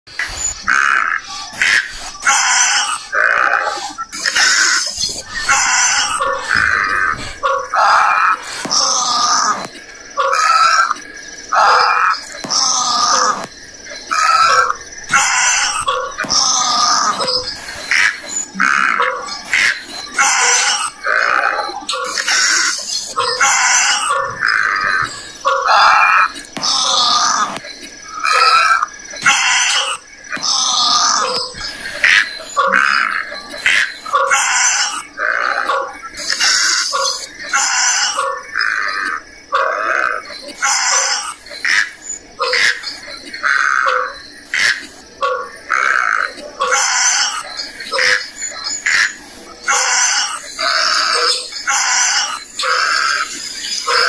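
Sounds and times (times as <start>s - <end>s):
animal calling roughly: 0.1s - 13.5s, 14.1s - 54.0s.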